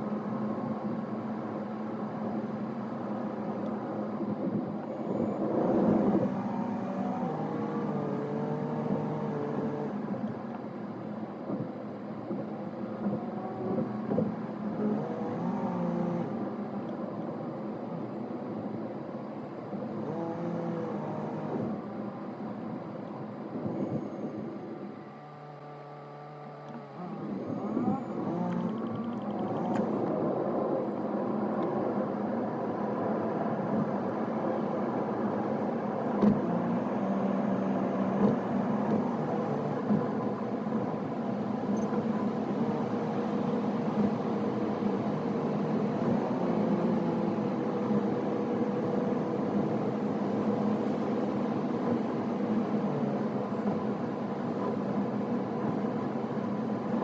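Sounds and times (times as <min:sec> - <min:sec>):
road noise inside car: 0:00.0 - 0:57.0.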